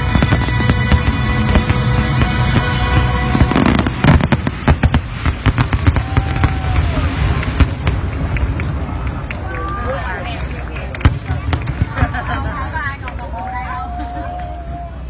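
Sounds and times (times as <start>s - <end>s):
fireworks crackling and banging: 0.0s - 14.4s.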